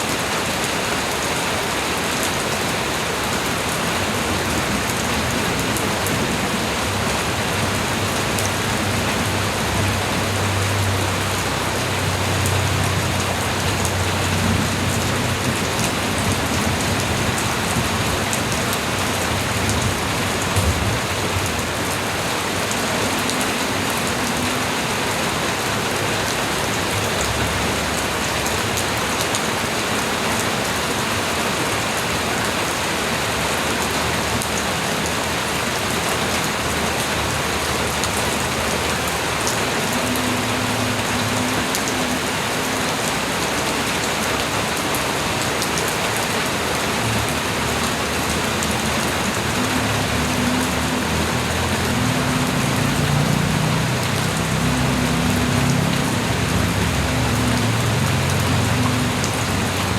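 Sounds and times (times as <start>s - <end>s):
light rain patter: 0.0s - 59.9s.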